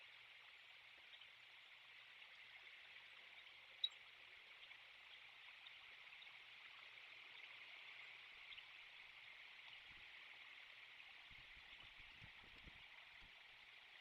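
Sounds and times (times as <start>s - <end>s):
faint outdoor microphone hiss: 0.0s - 14.0s.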